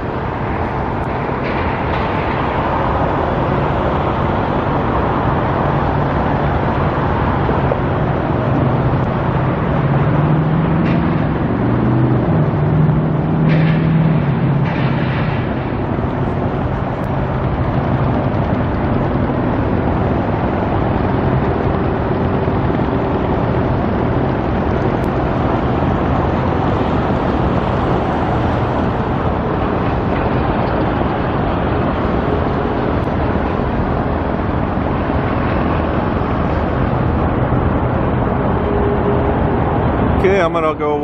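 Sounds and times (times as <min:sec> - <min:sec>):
road traffic noise: 0:00.0 - 0:41.0.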